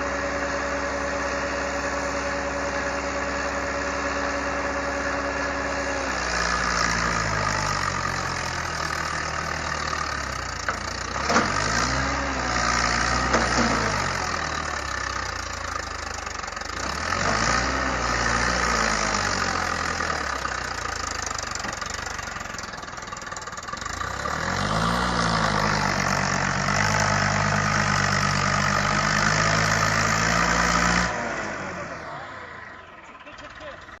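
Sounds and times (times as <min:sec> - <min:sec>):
tractor engine revving: 0:00.0 - 0:34.0.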